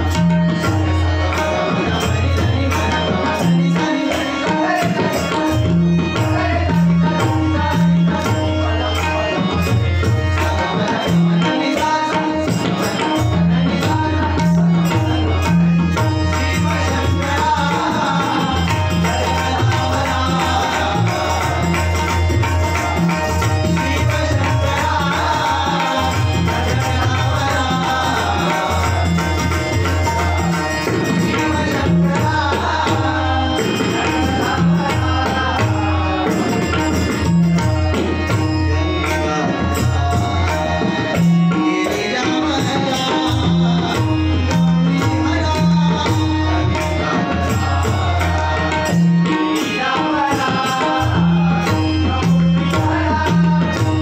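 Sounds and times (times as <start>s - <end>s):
tabla and pakhavaj drumming: 0.0s - 54.0s.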